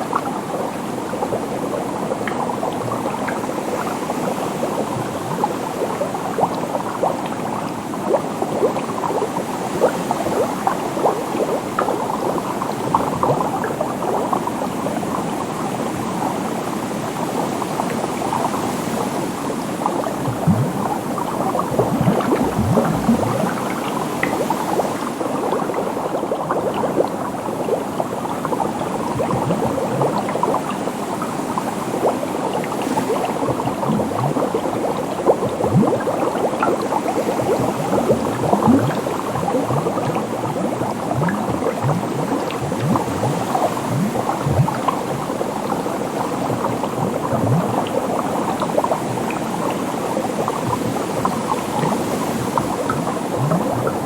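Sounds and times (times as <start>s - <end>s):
water bubbling: 0.0s - 16.4s, 17.1s - 54.0s.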